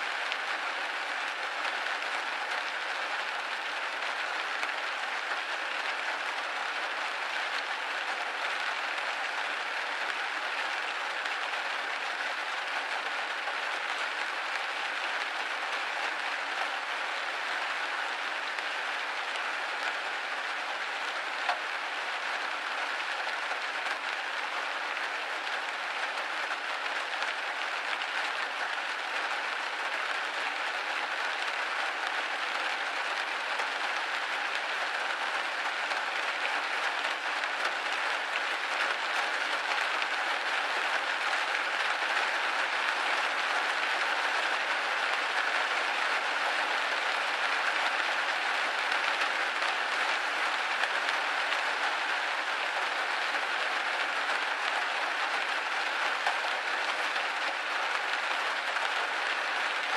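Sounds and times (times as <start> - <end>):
rain hitting a window: 0.0 - 59.9.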